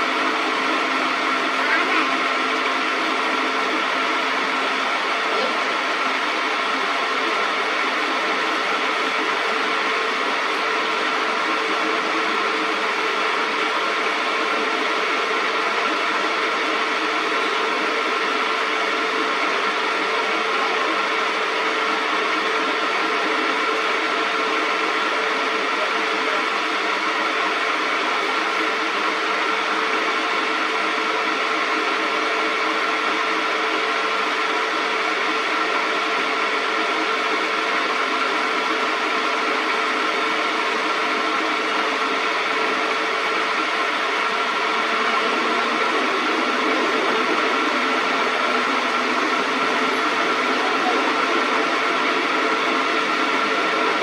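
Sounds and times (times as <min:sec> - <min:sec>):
metal lathe whirring: 0:00.0 - 0:54.0.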